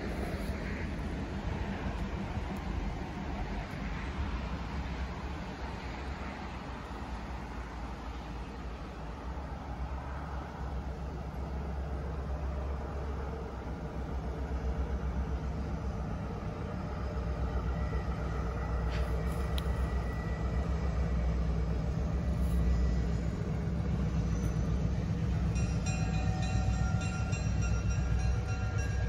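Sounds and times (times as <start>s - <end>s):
diesel locomotive rumble: 0.0s - 29.0s.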